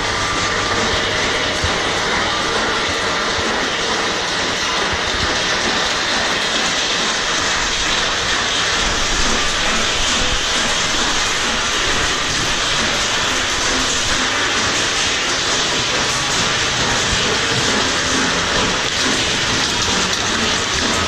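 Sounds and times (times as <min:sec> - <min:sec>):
machine running steadily: 0:00.0 - 0:21.0.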